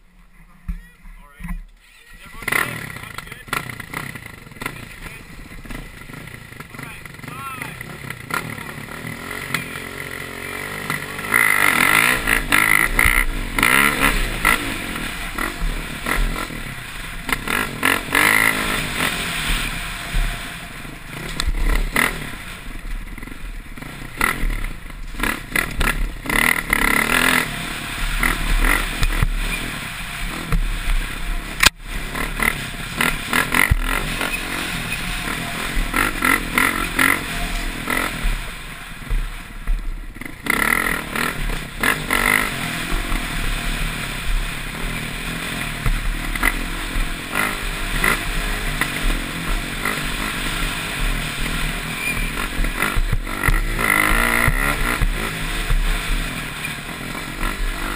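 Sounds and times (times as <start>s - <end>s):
dirt bike engine revving: 0.6s - 57.9s.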